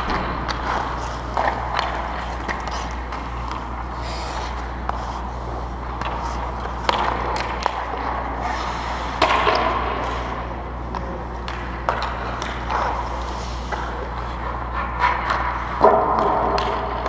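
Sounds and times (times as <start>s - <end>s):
puck and sticks clacking: 0.0s - 8.4s, 9.1s - 17.0s
steady low hum: 0.0s - 17.0s.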